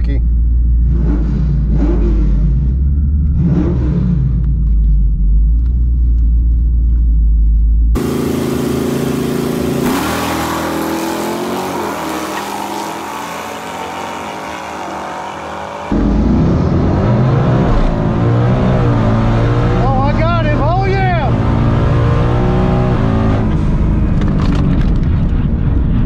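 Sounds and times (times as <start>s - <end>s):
car engine rumbling: 0.0s - 26.0s
car accelerating at full throttle: 0.8s - 4.8s, 8.0s - 26.0s.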